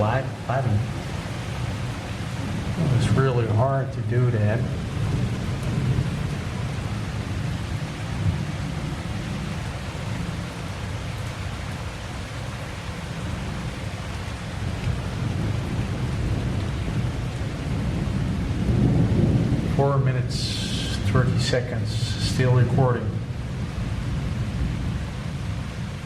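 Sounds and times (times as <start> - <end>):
rolling thunder: 0.0 - 12.2, 13.1 - 26.0
heavy rain: 0.0 - 26.0.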